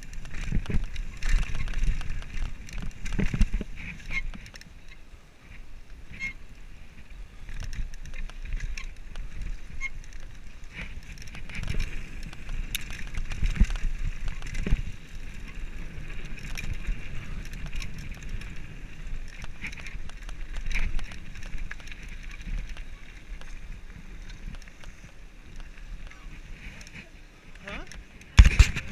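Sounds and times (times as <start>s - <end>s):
bike rattling over bumps: 0.0s - 28.9s
bike tyres on gravel: 0.0s - 28.9s
wind rumble on microphone: 0.0s - 28.9s.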